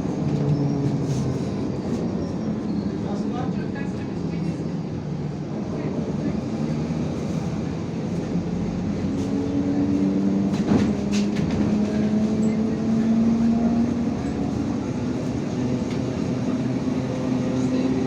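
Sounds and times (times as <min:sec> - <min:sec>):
bus engine and drivetrain hum: 0:00.0 - 0:18.0.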